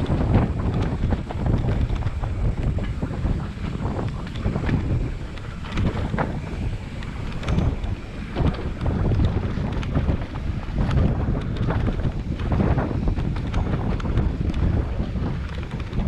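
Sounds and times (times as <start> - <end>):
knocks and rattles: 0.0 - 16.0
wind buffeting microphone: 0.0 - 16.0.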